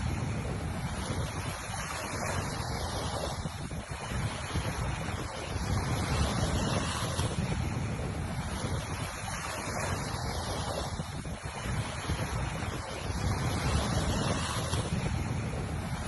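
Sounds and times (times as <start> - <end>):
ocean surf washing onto beach: 0.0 - 16.0
wind buffeting microphone: 0.0 - 16.0.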